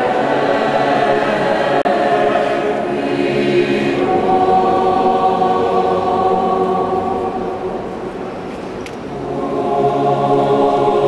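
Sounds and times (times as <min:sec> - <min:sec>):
choir singing held chords: 0:00.0 - 0:08.5, 0:09.1 - 0:11.0.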